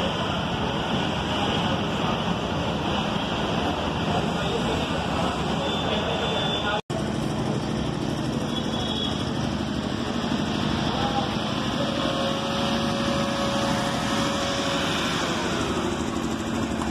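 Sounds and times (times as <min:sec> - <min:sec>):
vehicle engines humming: 0:00.0 - 0:16.9.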